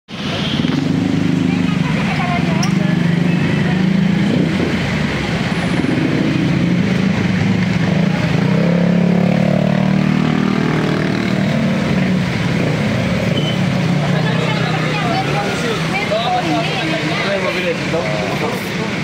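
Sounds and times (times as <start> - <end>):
traffic engine drone: 0.1 - 19.0
vehicle passing by: 0.2 - 19.0.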